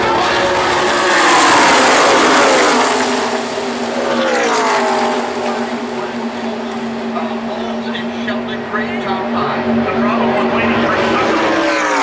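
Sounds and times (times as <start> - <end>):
race truck engines passing: 0.0 - 12.0.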